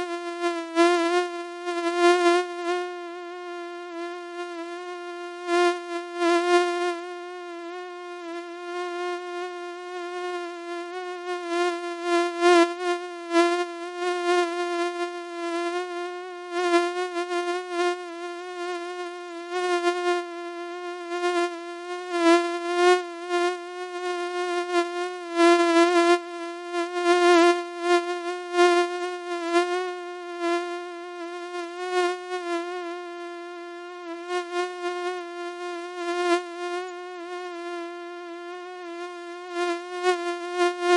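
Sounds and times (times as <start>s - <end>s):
mosquito buzzing: 0.0s - 40.9s.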